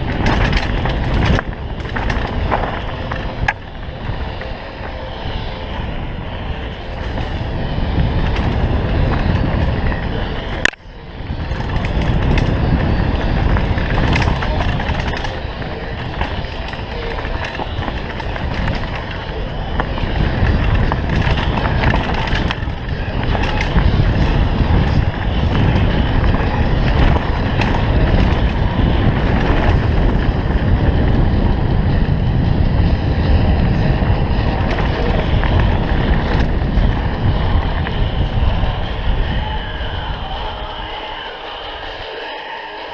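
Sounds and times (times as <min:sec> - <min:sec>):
bike clicks and rattles: 0:00.0 - 0:42.9
tyres rumbling on dirt: 0:00.0 - 0:42.9
wind noise on microphone: 0:00.0 - 0:42.9.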